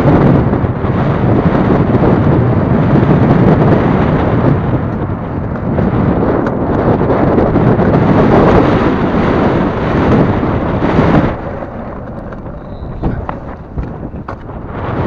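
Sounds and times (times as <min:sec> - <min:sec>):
longboard wheels rolling on asphalt: 0:00.0 - 0:15.0
wind on microphone: 0:00.0 - 0:15.0.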